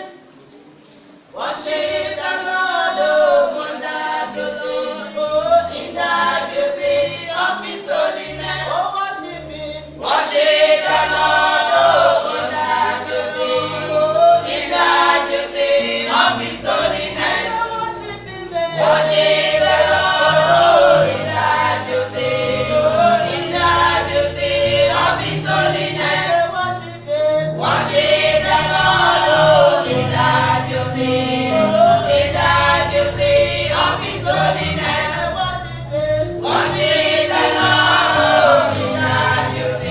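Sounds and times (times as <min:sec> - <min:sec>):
choir singing: 0:01.3 - 0:09.1, 0:10.0 - 0:39.9.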